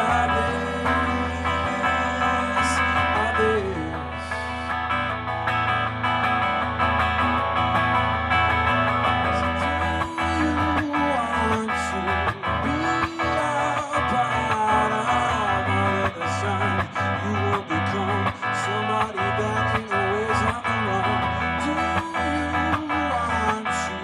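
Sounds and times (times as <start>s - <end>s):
electric guitar strummed through amplifier: 0.0s - 24.0s.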